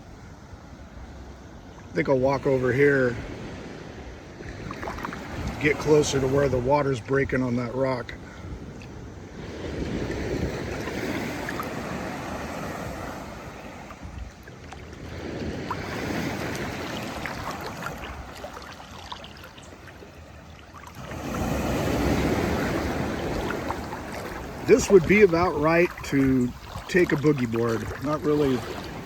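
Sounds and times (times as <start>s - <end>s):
sea waves breaking on rock: 2.0s - 8.0s, 8.6s - 29.0s.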